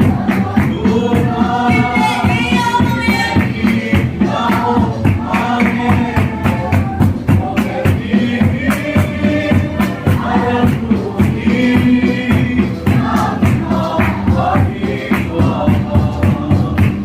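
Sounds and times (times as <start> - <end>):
congregation singing: 0.0 - 17.0
live band playing: 0.0 - 17.0.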